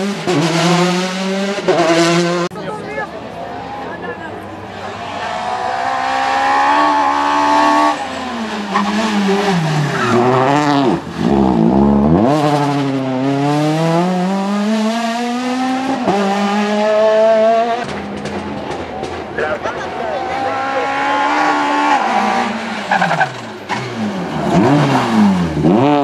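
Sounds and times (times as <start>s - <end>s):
rally car engine revving: 0.0s - 2.6s, 3.6s - 26.0s.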